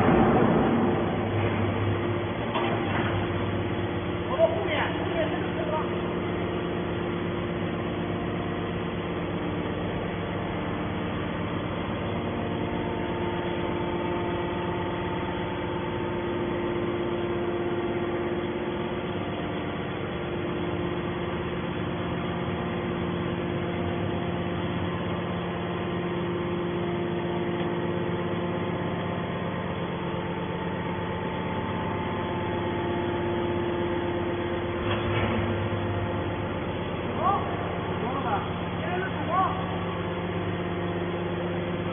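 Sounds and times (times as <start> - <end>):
hydraulic power unit humming: 0.0 - 41.9.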